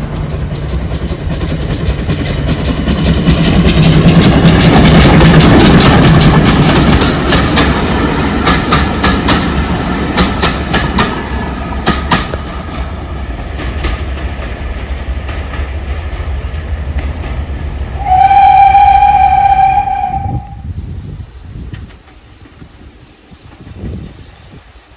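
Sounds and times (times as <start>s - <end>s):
train wheels clicking over rail joints: 0.0s - 20.5s, 21.2s - 24.9s
train rumble: 0.0s - 24.9s.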